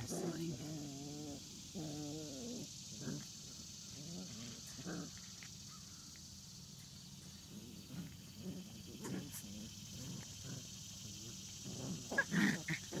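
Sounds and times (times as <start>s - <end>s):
puppies growling playfully: 0.0s - 5.5s, 7.4s - 13.0s.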